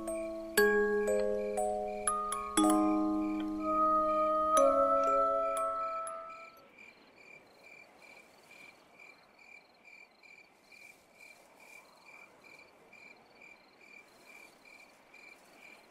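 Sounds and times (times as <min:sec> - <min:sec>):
crickets chirping: 0:00.0 - 0:15.9
soft night hiss: 0:00.0 - 0:15.9.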